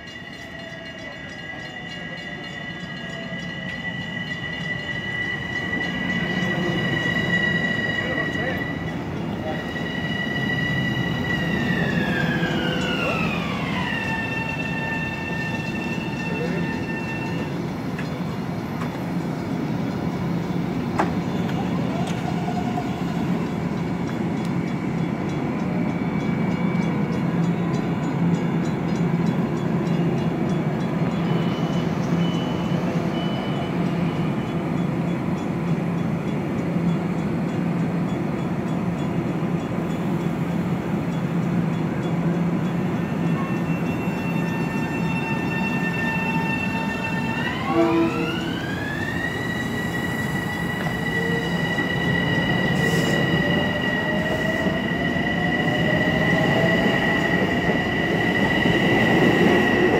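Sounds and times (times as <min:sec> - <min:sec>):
electric train whine: 0:00.0 - 0:59.9
train electrical hum: 0:00.0 - 0:59.9.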